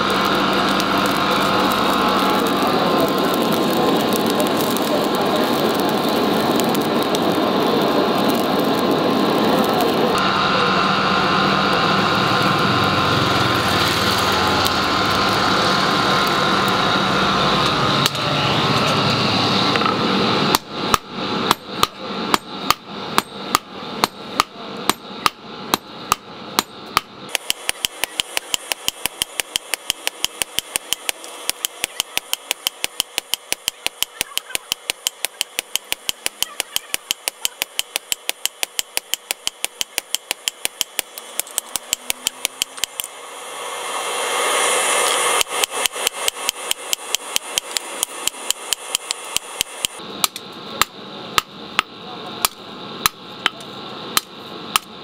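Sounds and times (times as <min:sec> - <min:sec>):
loud machine noise: 0:00.0 - 0:55.0.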